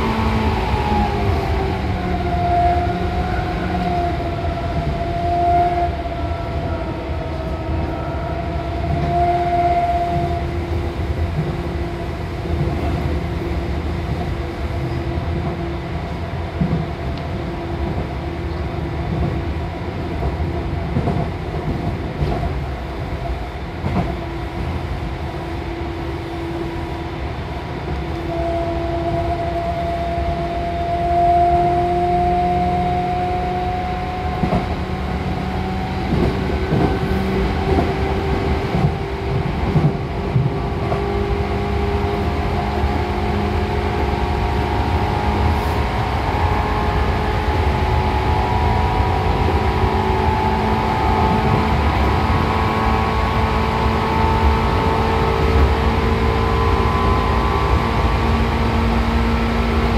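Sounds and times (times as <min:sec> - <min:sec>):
train motor hum: 0:00.0 - 0:59.9
train wheels rumbling on rails: 0:00.0 - 0:59.9.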